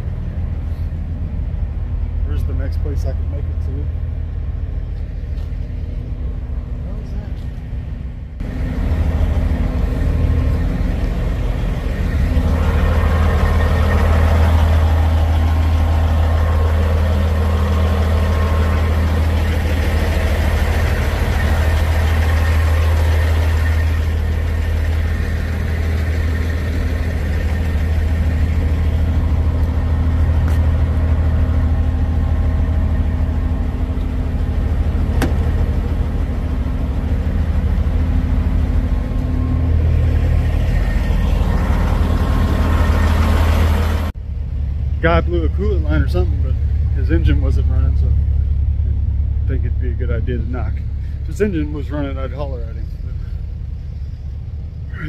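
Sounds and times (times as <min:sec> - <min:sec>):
truck diesel engine idling: 0:00.0 - 0:55.0.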